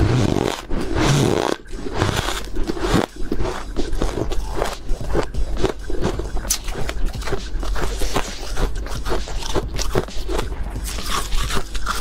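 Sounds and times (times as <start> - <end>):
ice crunching being chewed: 0.0 - 12.0.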